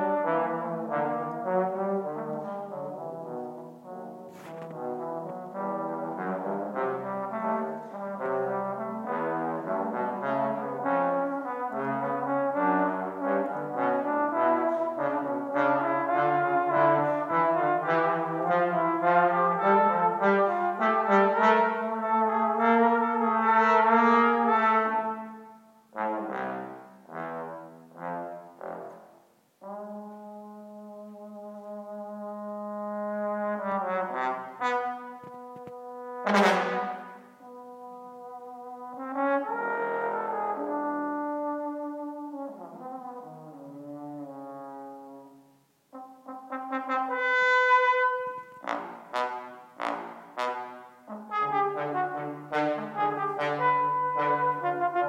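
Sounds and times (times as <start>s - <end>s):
trombone duet: 0.0s - 55.0s
trombone over loudspeakers: 0.0s - 55.0s.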